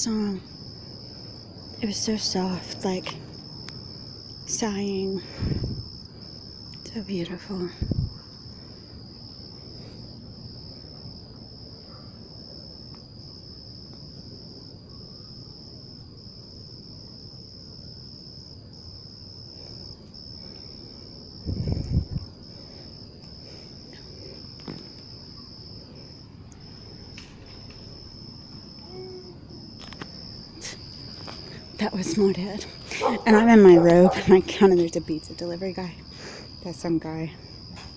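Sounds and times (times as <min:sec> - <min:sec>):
night insects chorus: 0:00.0 - 0:37.9.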